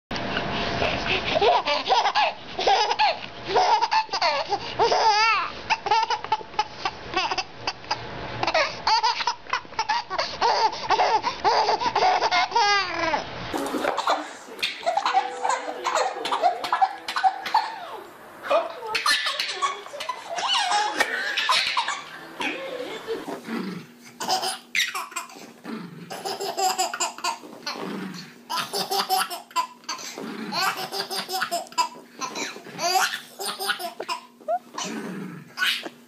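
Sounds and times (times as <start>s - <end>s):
baby laughing: 1.2s - 23.4s, 24.1s - 25.4s, 26.1s - 27.8s, 28.5s - 34.9s, 35.6s - 36.0s.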